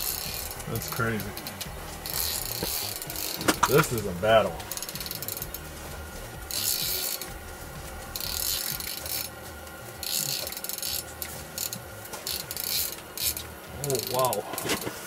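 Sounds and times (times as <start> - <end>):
fishing reel ratcheting whir: 0.0 - 15.0.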